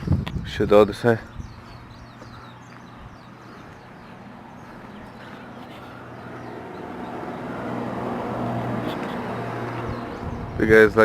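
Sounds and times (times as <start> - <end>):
steady engine hum: 0.8 - 11.0.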